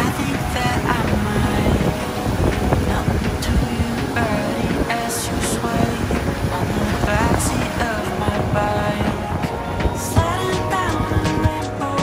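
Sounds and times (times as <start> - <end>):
background music: 0.0 - 12.0
motorboat engines rumbling: 0.0 - 12.0.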